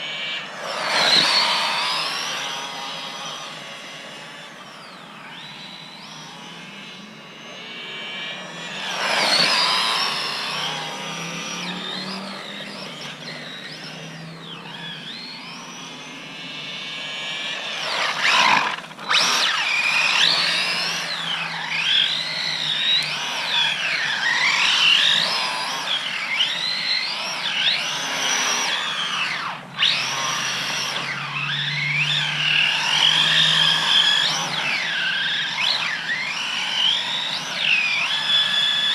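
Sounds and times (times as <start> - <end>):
rc truck electric motor whining: 0.0 - 38.9.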